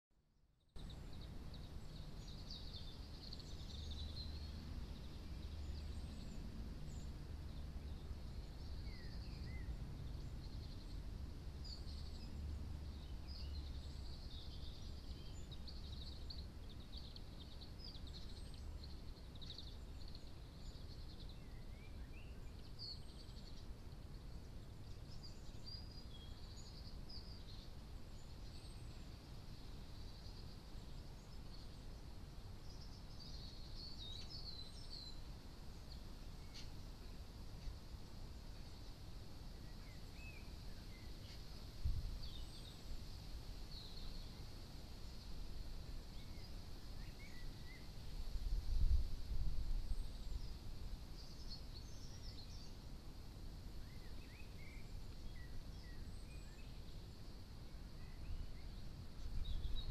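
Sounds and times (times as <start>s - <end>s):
small birds chirping: 0.6s - 59.9s.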